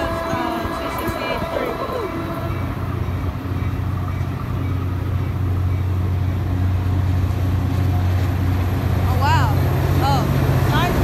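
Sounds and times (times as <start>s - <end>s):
diesel locomotive engine droning: 0.0s - 11.0s.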